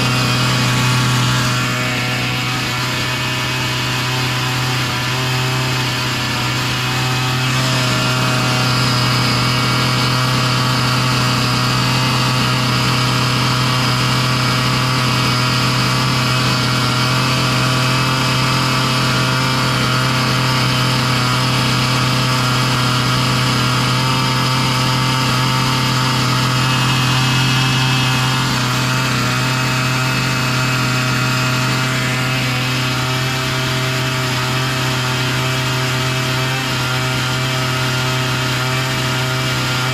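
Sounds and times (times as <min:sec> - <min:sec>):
chainsaw engine idling fast: 0:00.0 - 0:39.9.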